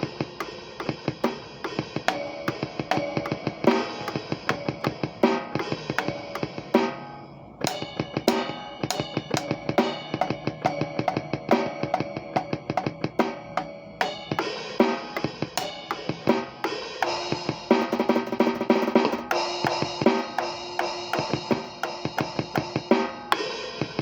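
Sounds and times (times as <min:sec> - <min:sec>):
drum kit playing: 0:00.0 - 0:24.0.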